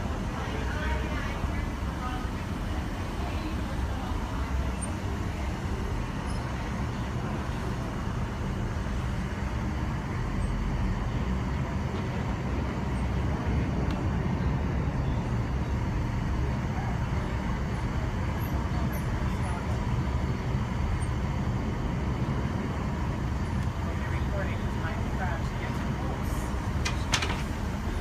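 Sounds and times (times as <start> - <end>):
wind tunnel air rush and fan rumble: 0.0 - 28.0.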